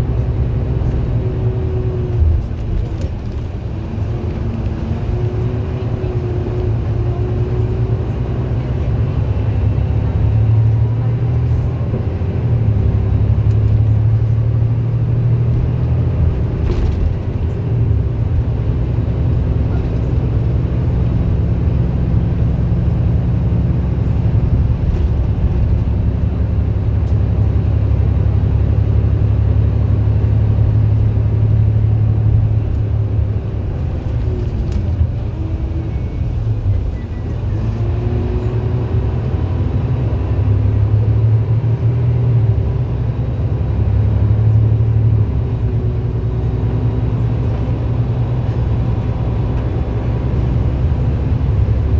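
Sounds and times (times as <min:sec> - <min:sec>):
bus engine droning: 0:00.0 - 0:51.9.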